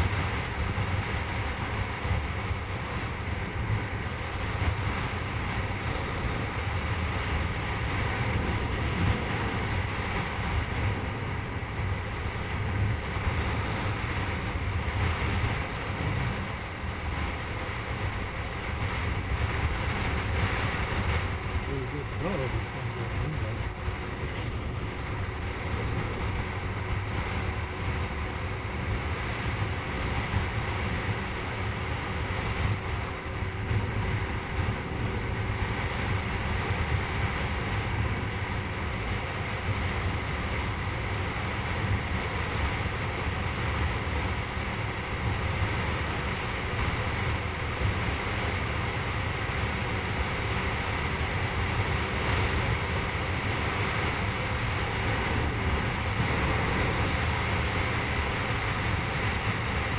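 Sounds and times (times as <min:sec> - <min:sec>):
motorcycle engine hum: 0:00.0 - 0:59.9
wind rushing over microphone: 0:00.0 - 0:59.9.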